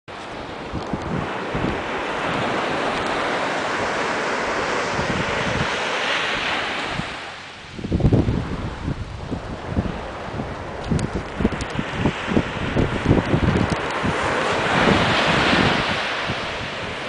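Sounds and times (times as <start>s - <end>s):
ocean surf breaking: 0.1s - 17.0s
wind buffeting microphone: 0.1s - 17.0s.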